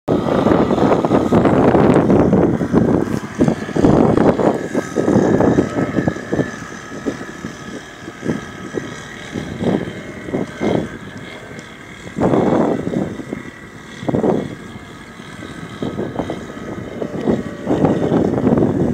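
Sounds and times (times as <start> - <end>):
boat outboard motor running: 0.1 - 18.9.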